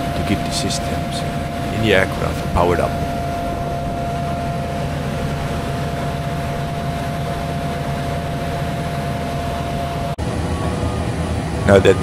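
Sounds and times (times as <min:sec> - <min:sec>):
constant mid-pitched whine: 0:00.0 - 0:12.0
ground support equipment rumble: 0:00.0 - 0:12.0.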